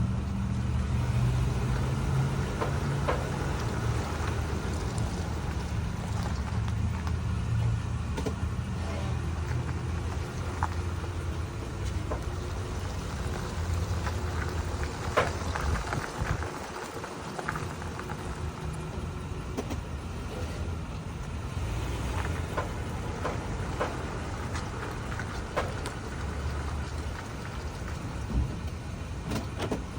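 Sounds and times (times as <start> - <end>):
engine and road drone: 0.0 - 29.9.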